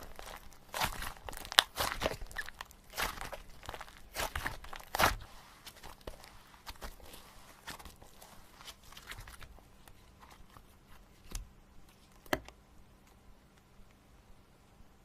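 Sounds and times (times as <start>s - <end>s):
faint rustling: 0.0s - 12.2s.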